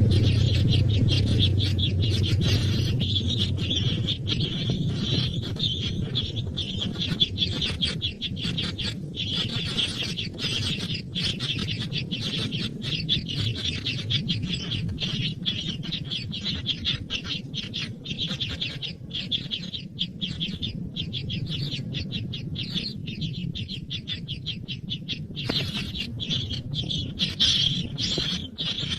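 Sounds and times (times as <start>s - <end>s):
baby birds chirping: 0.0s - 28.9s.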